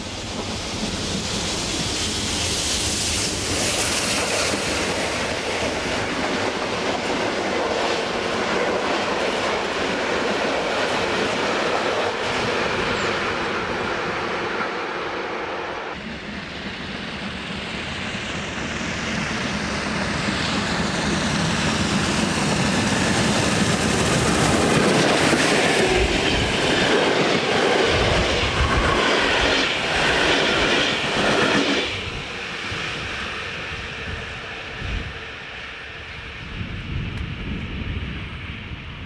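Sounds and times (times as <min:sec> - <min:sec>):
steam locomotive working hard: 0:00.0 - 0:39.0.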